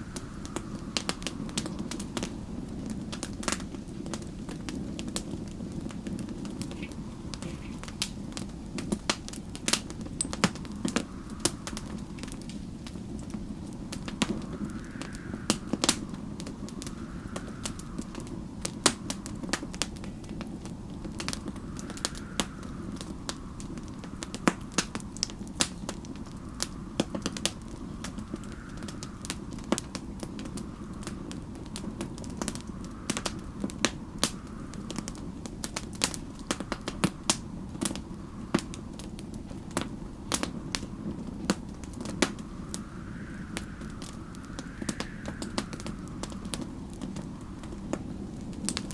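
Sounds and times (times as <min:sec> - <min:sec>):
storm wind whistling: 0:00.0 - 0:48.9
wood fire crackling and popping: 0:00.0 - 0:48.9.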